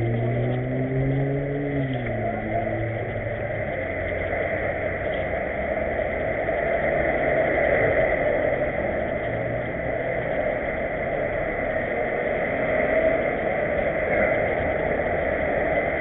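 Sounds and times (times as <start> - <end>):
car engines running close: 0.0 - 16.0
street traffic noise: 0.0 - 16.0.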